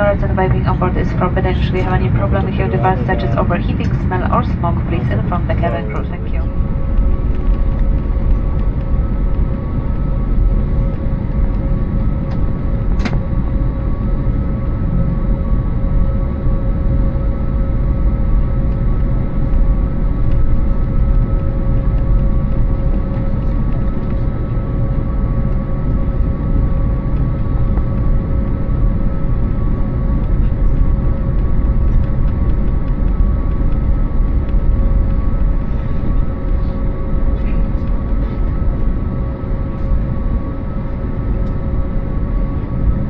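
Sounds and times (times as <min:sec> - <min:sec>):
jet engines heard inside cabin: 0:00.0 - 0:43.0.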